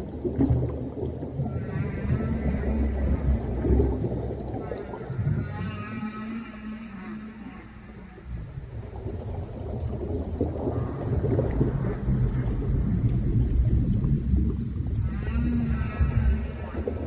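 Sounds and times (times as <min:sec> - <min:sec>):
low underwater rumbling: 0:00.0 - 0:17.0.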